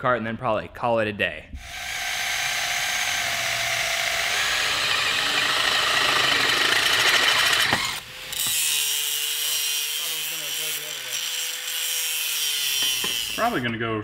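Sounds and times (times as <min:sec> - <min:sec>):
angle grinder cutting steel: 0:01.6 - 0:13.7
power drill boring through steel: 0:01.6 - 0:13.7.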